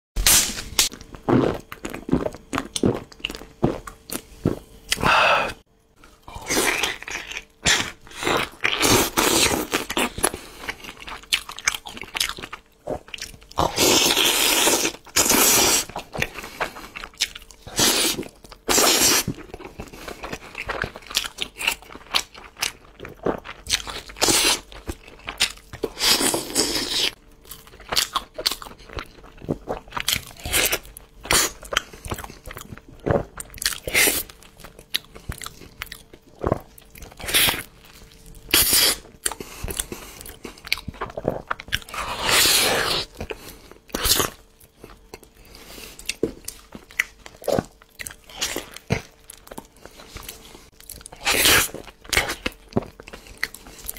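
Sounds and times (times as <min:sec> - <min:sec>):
crunching bites and chewing: 0:00.2 - 0:05.1, 0:06.0 - 0:53.9.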